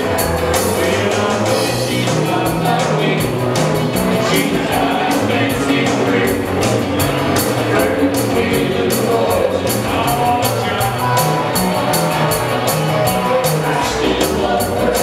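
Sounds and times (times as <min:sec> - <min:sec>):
acoustic guitar: 0:00.0 - 0:15.0
drum kit steady beat: 0:00.0 - 0:15.0
electric bass: 0:00.0 - 0:15.0
electric guitar: 0:00.0 - 0:15.0.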